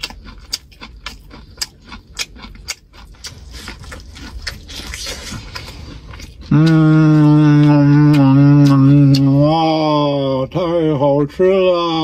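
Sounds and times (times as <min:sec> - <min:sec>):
chewing corn on the cob: 0:00.0 - 0:10.7.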